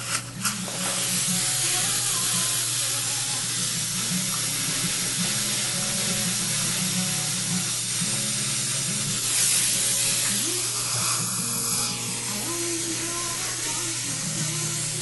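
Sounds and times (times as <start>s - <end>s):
suction watery hiss: 0.0s - 15.0s.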